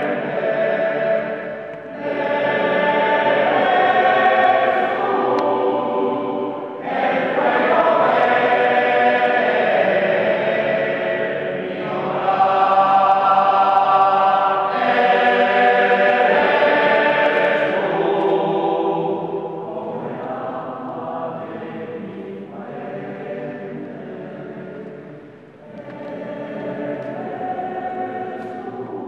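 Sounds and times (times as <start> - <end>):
mixed choir singing a cappella: 0.0 - 29.0.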